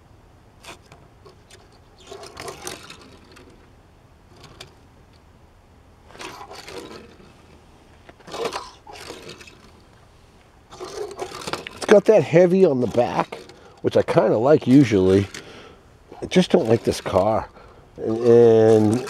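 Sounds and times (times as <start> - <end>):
toy car rolling on wood: 0.6 - 3.7, 4.3 - 4.8, 6.1 - 9.8, 10.7 - 19.0.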